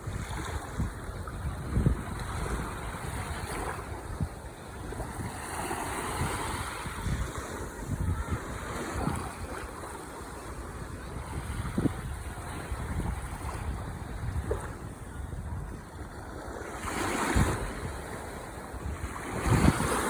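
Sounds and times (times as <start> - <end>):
ocean waves on shore: 0.0 - 20.0
wind buffeting microphone: 0.0 - 20.0.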